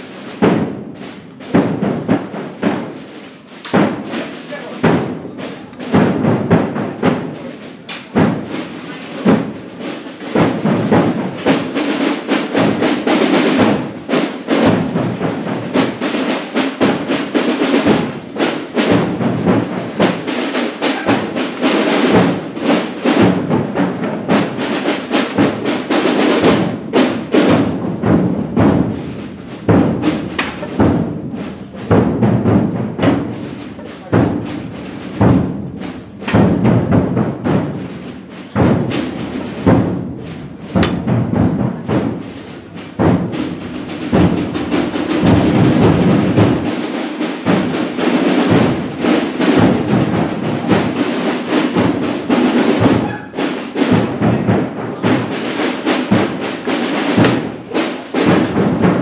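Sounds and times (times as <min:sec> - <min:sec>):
drums beating: 0:00.0 - 0:59.0.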